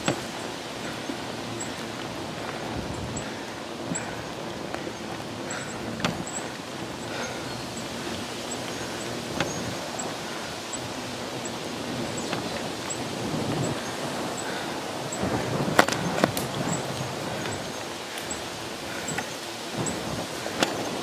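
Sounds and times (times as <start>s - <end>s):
steady rushing outdoor noise: 0.0s - 21.0s.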